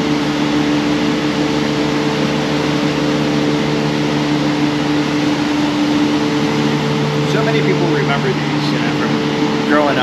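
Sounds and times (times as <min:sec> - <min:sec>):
ventilation system hum: 0:00.0 - 0:10.0.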